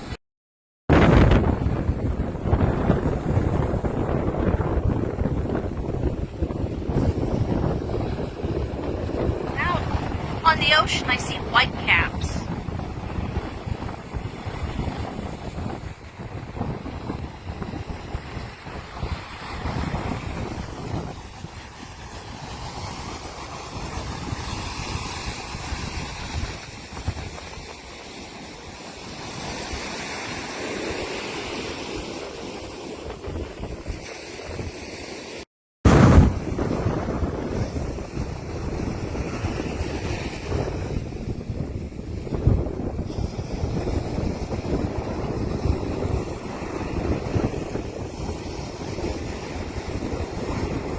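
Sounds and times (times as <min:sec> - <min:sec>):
wind buffeting microphone: 0:00.9 - 0:10.8, 0:12.4 - 0:30.0, 0:35.9 - 0:50.9.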